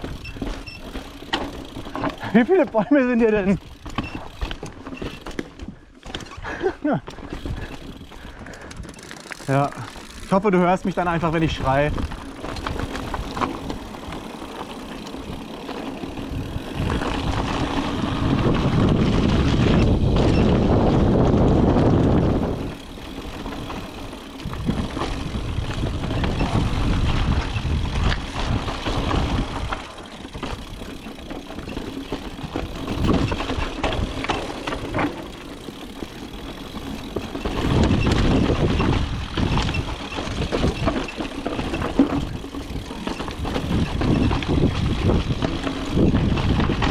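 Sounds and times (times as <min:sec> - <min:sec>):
bike rattling and knocking: 0:00.0 - 0:46.9
bike tyres rolling over dirt: 0:00.0 - 0:46.9.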